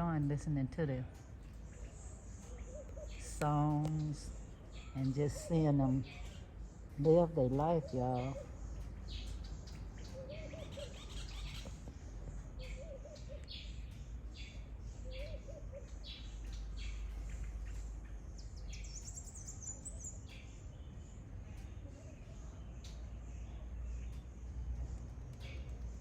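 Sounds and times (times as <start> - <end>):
small birds chirping and singing: 0.0 - 26.0.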